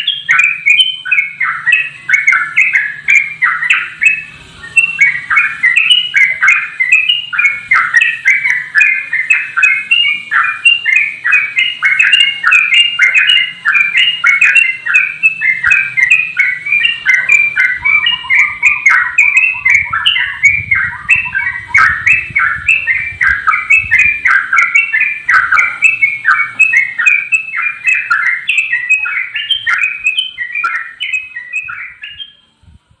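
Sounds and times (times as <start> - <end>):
bird singing bubbly notes: 0.0 - 32.4.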